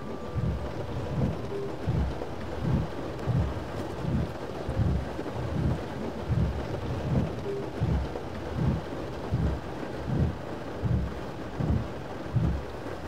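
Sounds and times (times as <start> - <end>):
rain on a car: 0.0 - 13.0
regular low thump: 0.3 - 12.6.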